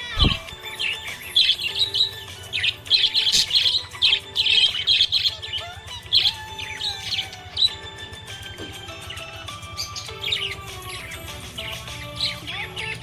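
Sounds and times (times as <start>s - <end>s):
budgerigar chirping: 0.0s - 13.0s.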